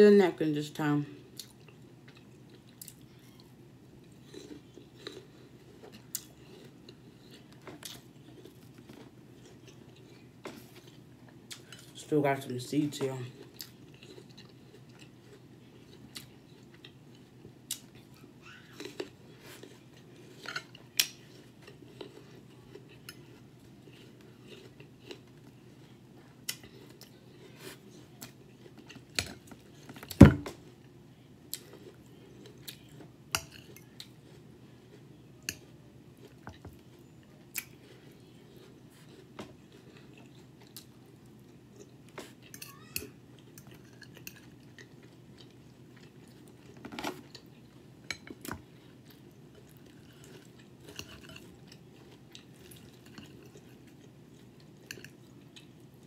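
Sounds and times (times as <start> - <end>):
faint low hum: 0.0 - 56.0
chewing: 1.3 - 11.9, 13.3 - 30.1, 31.5 - 56.0.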